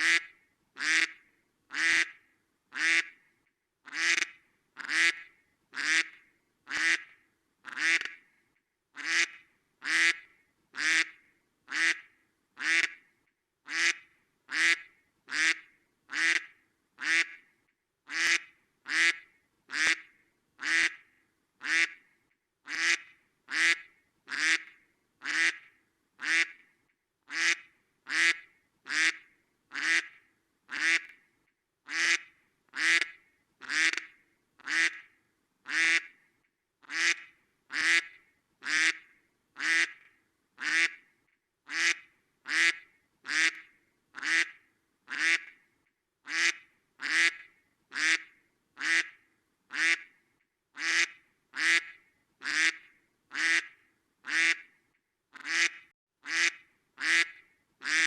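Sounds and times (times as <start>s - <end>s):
duck quacking: 0.0s - 3.2s, 3.9s - 8.2s, 9.0s - 13.0s, 13.7s - 17.4s, 18.1s - 21.0s, 21.6s - 22.0s, 22.7s - 25.6s, 26.2s - 26.6s, 27.3s - 31.1s, 31.9s - 35.1s, 35.7s - 36.1s, 36.9s - 39.0s, 39.6s - 40.0s, 40.6s - 41.0s, 41.7s - 45.5s, 46.3s - 50.1s, 50.8s - 54.7s, 55.4s - 58.0s.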